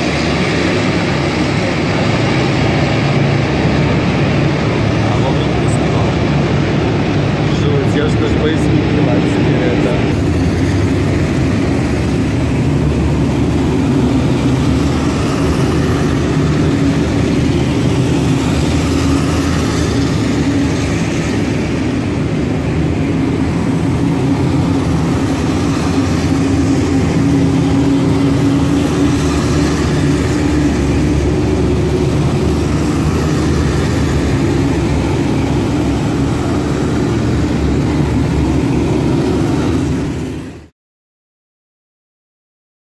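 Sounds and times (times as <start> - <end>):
armoured vehicle engines droning: 0.0 - 40.7.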